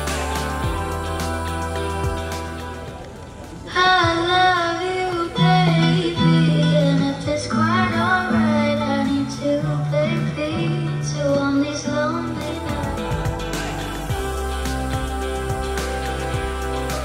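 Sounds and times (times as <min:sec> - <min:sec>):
sustained bass notes: 0:00.0 - 0:03.8, 0:05.4 - 0:17.0
guitar: 0:00.0 - 0:17.0
person singing: 0:00.0 - 0:17.0.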